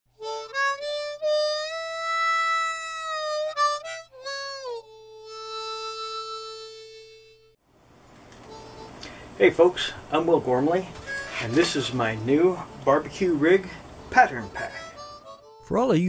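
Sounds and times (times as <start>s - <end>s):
solo harmonica tune: 0.2s - 7.6s, 8.4s - 15.9s.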